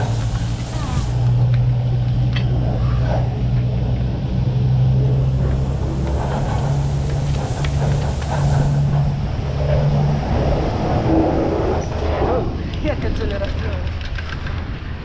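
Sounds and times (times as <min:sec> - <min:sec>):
chairlift machine hum: 0:00.0 - 0:14.7.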